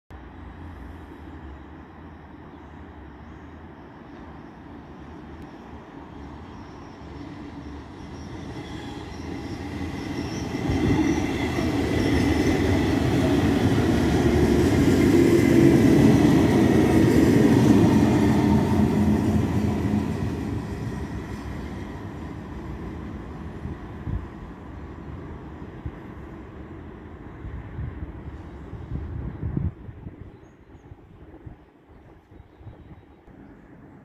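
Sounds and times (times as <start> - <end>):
train wheels rumbling on rails: 5.3 - 34.0.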